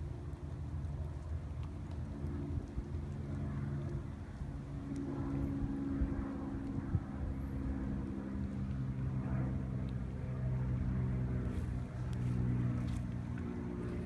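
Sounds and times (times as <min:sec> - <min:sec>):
low motor drone: 0:00.0 - 0:14.0.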